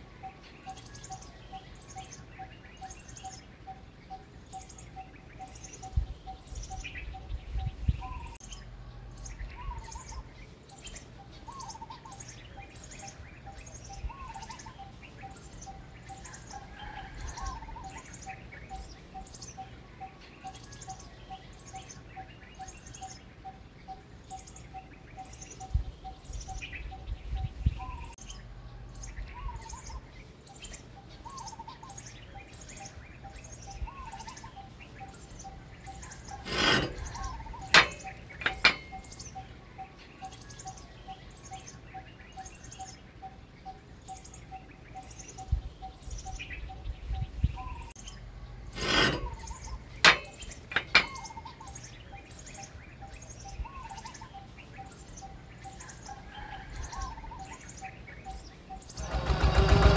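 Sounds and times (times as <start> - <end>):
birds curling calls and chirps: 0.0 - 59.9.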